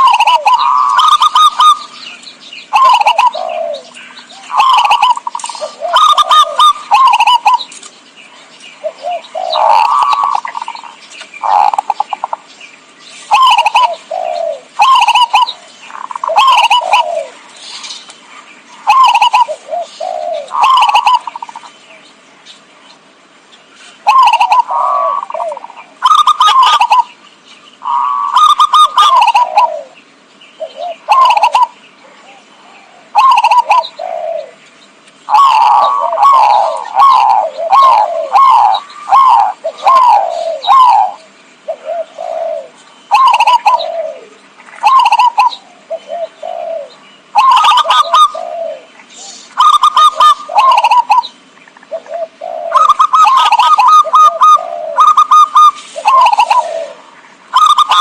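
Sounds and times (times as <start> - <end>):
dove cooing: 0.0 - 7.8, 8.8 - 12.5, 13.2 - 21.8, 24.0 - 27.2, 27.8 - 30.0, 30.6 - 34.6, 35.3 - 58.0.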